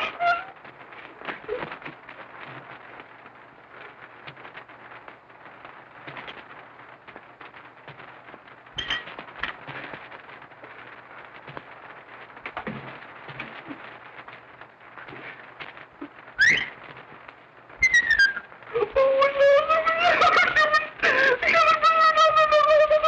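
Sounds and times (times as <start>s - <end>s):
film soundtrack hiss and crackle: 0.0s - 23.0s.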